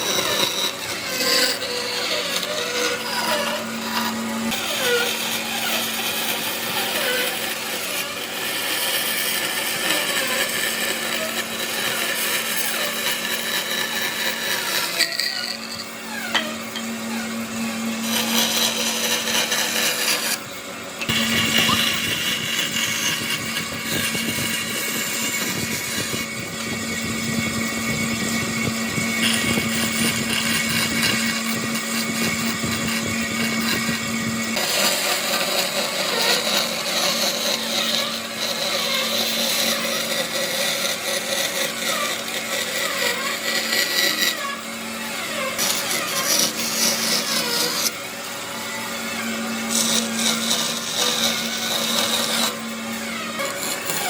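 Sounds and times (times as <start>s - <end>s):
power tool grinding wood: 0.0s - 54.0s.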